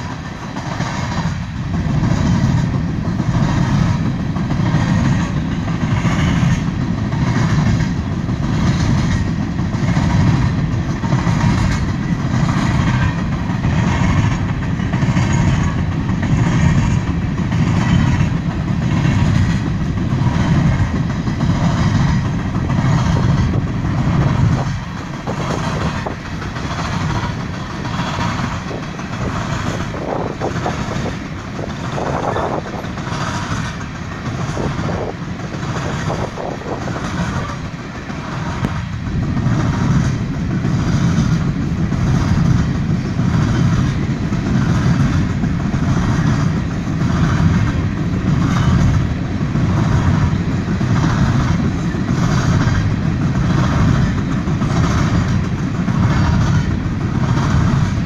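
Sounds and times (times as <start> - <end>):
freight train rumble: 0.0 - 58.0
steel wheels clattering: 0.0 - 58.0.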